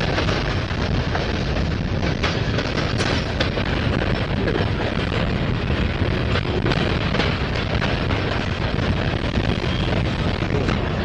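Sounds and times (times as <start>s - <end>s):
clicks and clanks from train: 0.0s - 11.0s
freight train rumbling past: 0.0s - 11.0s.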